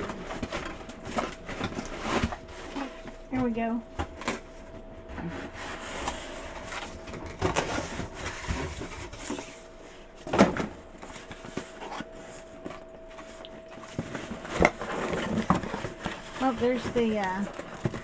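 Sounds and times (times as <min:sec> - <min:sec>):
cardboard box rustling and scraping: 0:00.0 - 0:10.3, 0:11.0 - 0:18.0.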